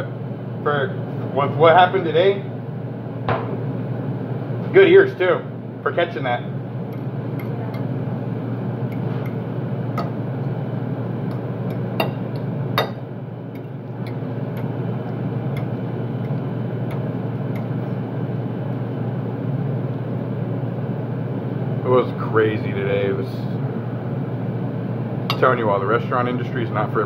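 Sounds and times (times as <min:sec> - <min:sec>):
ventilation hum: 0:00.0 - 0:27.0.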